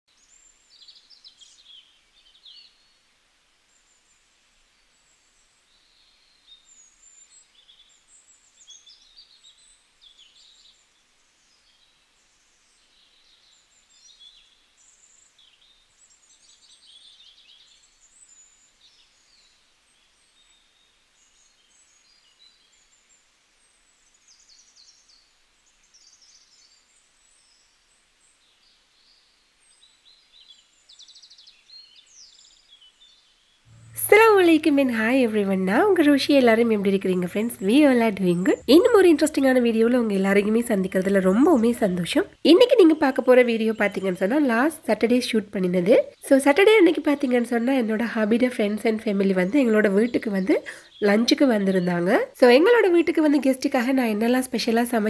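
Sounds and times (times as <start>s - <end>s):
low steady hiss: 0.1s - 55.0s
small birds chirping and trilling: 4.8s - 55.0s.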